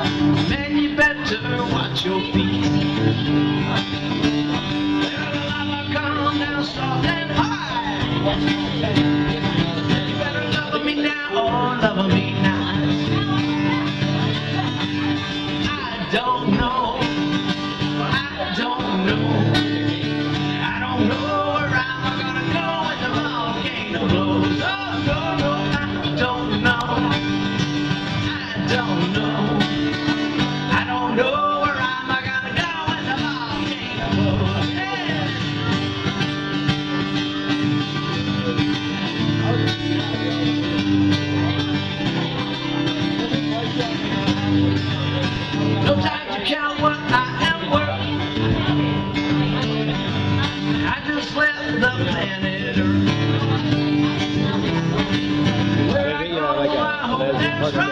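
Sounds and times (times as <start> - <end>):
acoustic guitar strumming: 0.0 - 57.9
man singing: 0.0 - 57.9.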